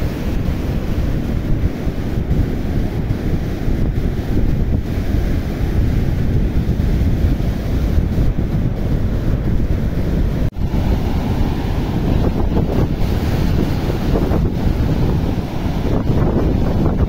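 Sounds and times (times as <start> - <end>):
seawater rushing over beach: 0.0 - 17.0
storm surf crashing: 0.0 - 17.0
wind buffeting microphone: 0.0 - 17.0.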